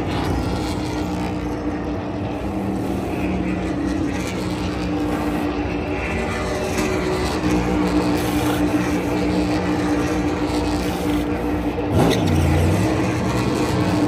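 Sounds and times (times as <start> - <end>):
race car engine droning: 0.0 - 14.0.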